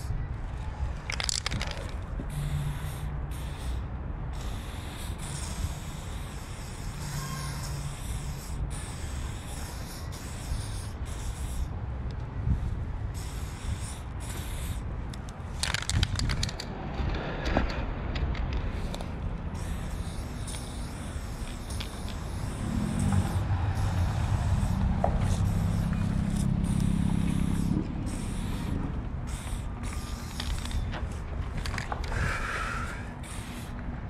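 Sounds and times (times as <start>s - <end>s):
low street rumble: 0.0s - 34.0s
spray paint can hissing: 1.0s - 11.8s, 12.5s - 16.7s, 18.6s - 33.9s.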